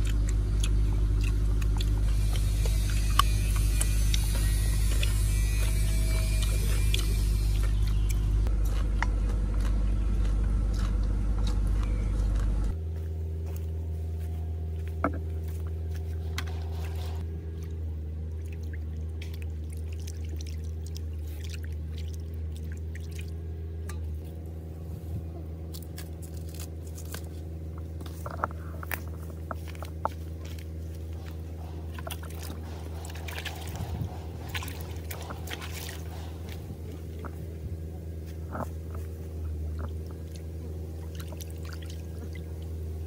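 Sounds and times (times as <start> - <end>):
low motor drone: 0.0 - 43.0.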